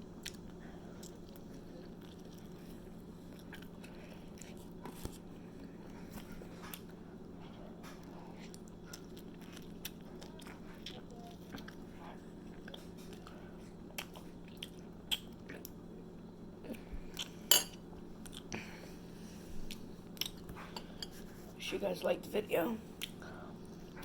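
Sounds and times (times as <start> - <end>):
steady low hum: 0.0 - 24.0
person chewing food: 0.1 - 15.8, 16.6 - 21.5, 22.9 - 24.0.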